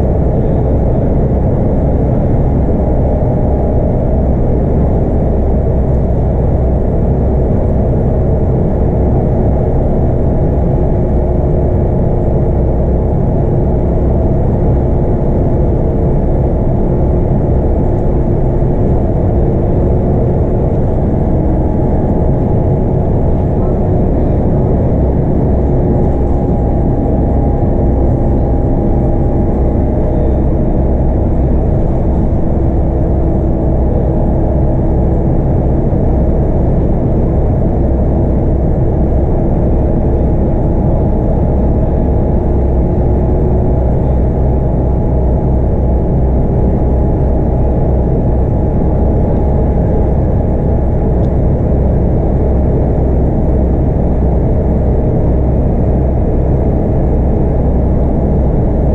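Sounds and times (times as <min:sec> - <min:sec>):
road noise rumble: 0:00.0 - 0:55.7
bus diesel engine cruising: 0:00.0 - 0:58.9
faint whine tones: 0:00.0 - 0:58.9.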